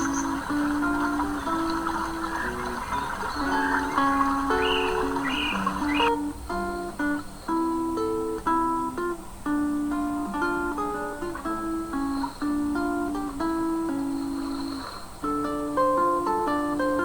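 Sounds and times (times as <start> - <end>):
acoustic guitar plucked melody: 0.0 - 17.0.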